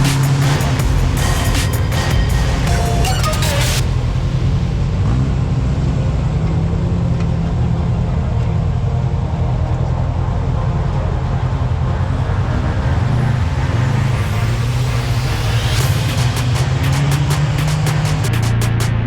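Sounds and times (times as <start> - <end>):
utility vehicle engine droning: 0.0 - 19.0.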